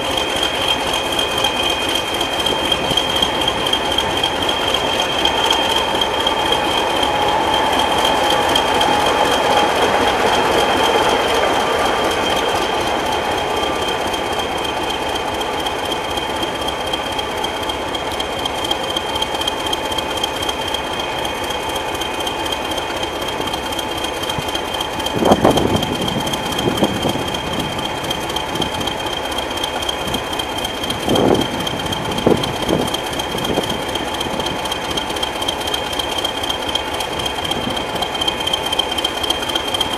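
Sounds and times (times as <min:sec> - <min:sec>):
diesel train running with whine: 0:00.0 - 0:39.9.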